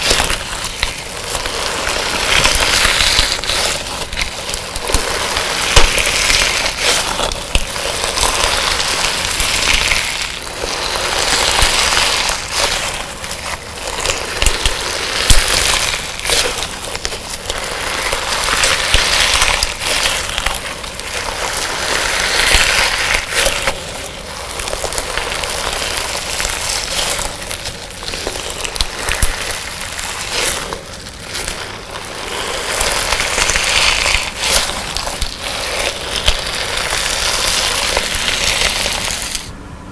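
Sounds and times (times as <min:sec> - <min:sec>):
hands squeezing crunchy slime: 0:00.0 - 0:39.5.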